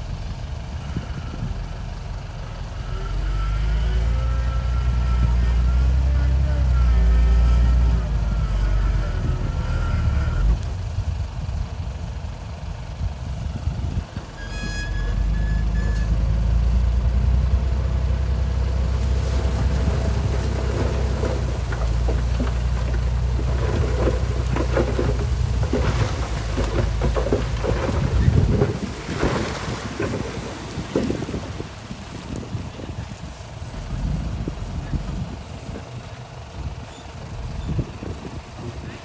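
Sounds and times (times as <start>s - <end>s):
truck engine rumbling: 0.0s - 39.0s.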